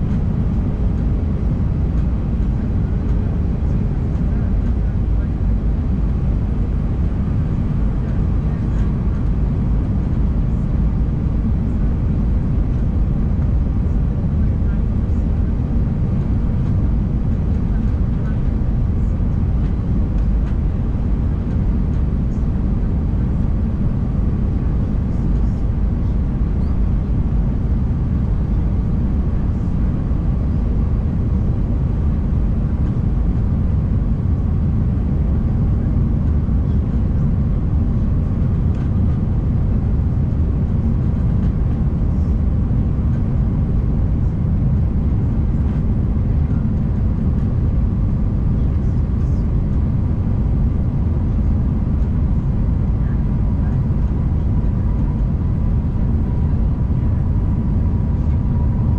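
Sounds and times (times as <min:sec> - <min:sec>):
airplane cabin engine rumble: 0:00.0 - 0:58.9.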